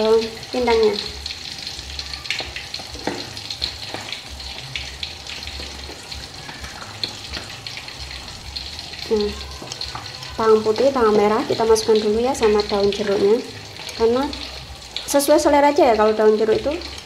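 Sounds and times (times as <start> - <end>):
fish frying in hot oil: 0.0 - 17.0
oil popping and crackling: 0.0 - 17.0.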